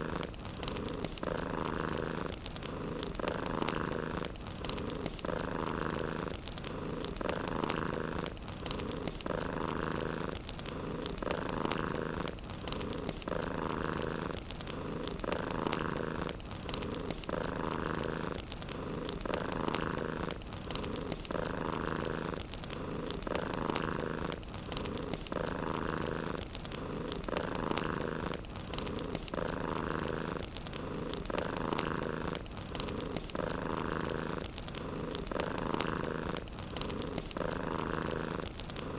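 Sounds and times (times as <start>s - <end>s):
cat purring: 0.0s - 38.9s
wood fire crackling: 0.0s - 38.9s.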